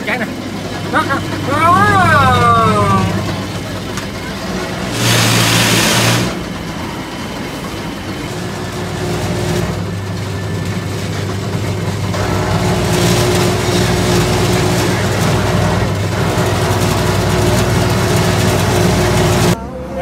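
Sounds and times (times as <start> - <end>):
cane rushing through rollers: 0.0 - 19.6
juice press motor humming: 0.0 - 19.6.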